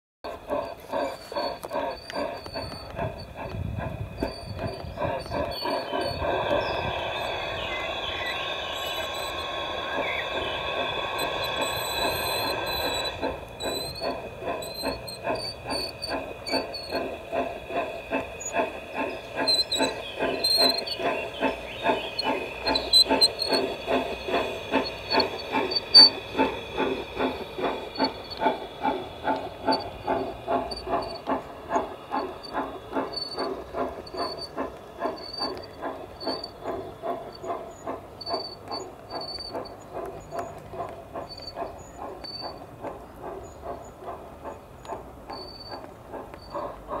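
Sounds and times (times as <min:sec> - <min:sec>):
model steam locomotive chuffing: 0:00.2 - 0:47.0
steam hissing: 0:00.3 - 0:47.0.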